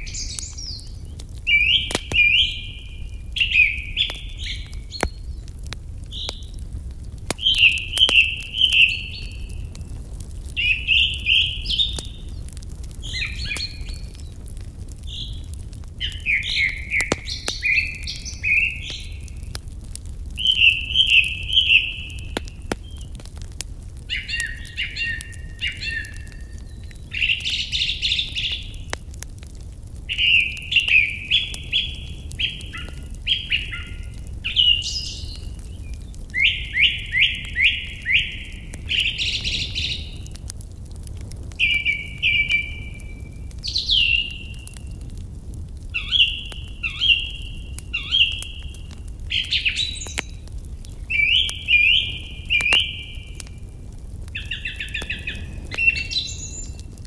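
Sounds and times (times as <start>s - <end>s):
campfire rumble and crackles: 0.0s - 57.0s
songbirds singing: 0.0s - 57.0s.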